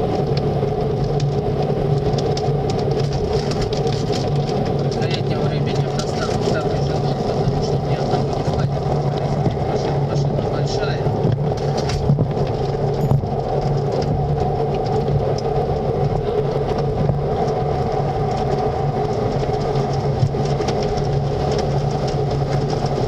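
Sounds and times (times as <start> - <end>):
car wash machinery humming: 0.0 - 23.0
water streaming over windshield: 0.0 - 23.0.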